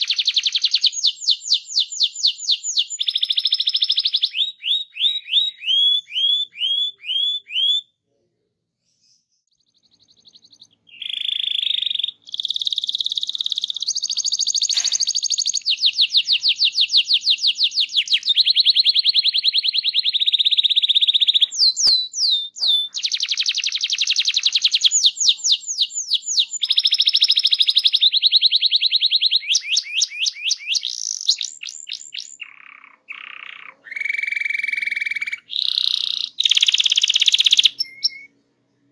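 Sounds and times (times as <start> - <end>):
canary singing: 0.0 - 8.0, 8.8 - 38.4.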